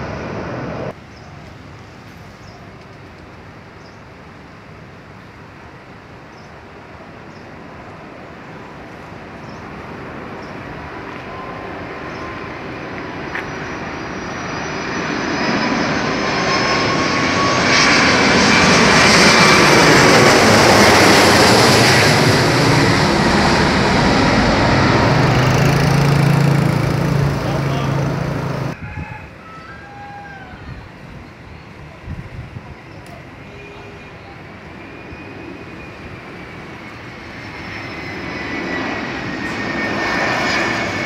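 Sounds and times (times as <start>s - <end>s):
jet airliner passing overhead: 0.0s - 41.0s.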